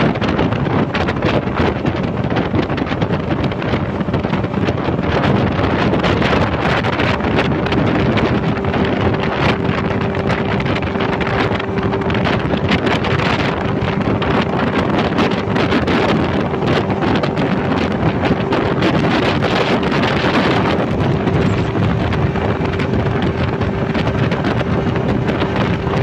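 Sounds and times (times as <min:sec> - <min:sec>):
outboard engine running: 0:00.0 - 0:26.0
wind buffeting microphone: 0:00.0 - 0:26.0
steady whining tone: 0:03.7 - 0:26.0.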